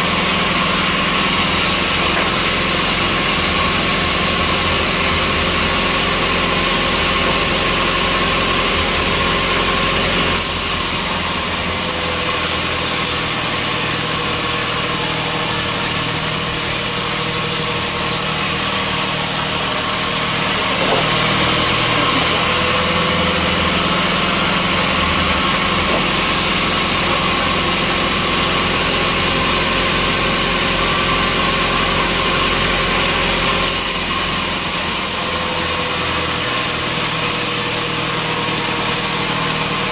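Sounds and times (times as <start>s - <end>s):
sawmill machinery hum and hiss: 0.0s - 39.9s.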